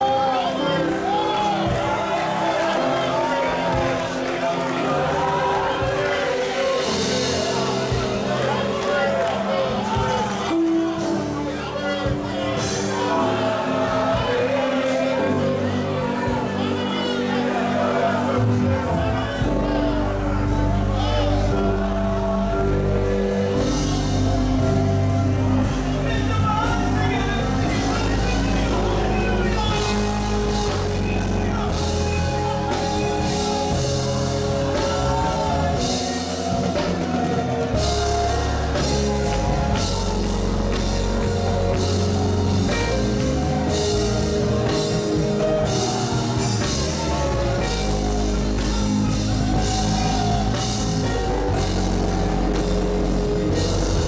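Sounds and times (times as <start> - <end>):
live gospel band music: 0.0 - 54.0.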